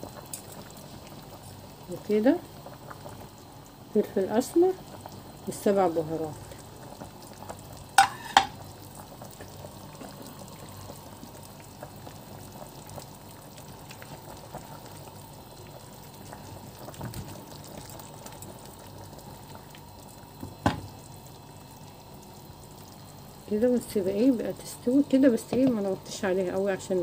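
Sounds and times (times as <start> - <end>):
faint bubbling of boiling water: 0.0 - 27.0.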